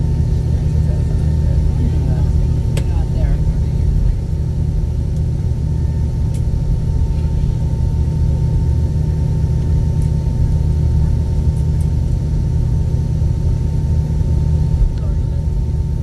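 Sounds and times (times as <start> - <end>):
aircraft cabin rumble: 0.0 - 16.0
thin steady whine: 0.0 - 16.0.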